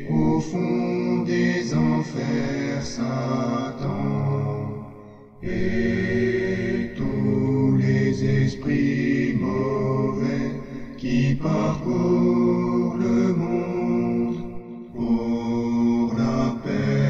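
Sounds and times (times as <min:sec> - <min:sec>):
slow chanted vocal music: 0:00.0 - 0:17.0.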